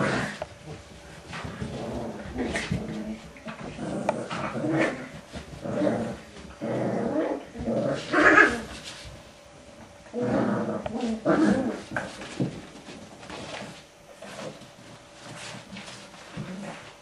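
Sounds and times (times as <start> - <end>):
puppies growling: 0.0 - 8.9, 9.8 - 17.0.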